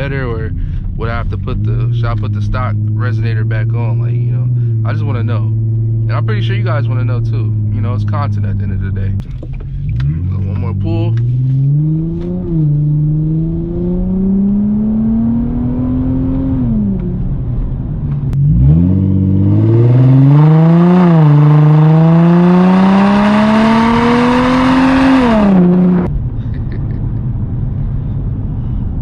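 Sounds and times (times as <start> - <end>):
car engine accelerating: 0.0 - 29.0
exhaust crackles: 0.0 - 29.0.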